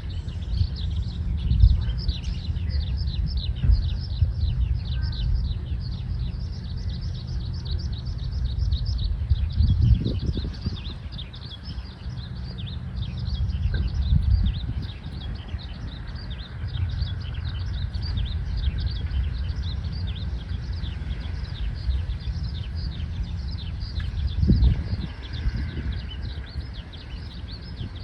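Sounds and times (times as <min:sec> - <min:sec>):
bird singing chirps and trills: 0:00.0 - 0:28.0
steady low rumble: 0:00.0 - 0:28.0.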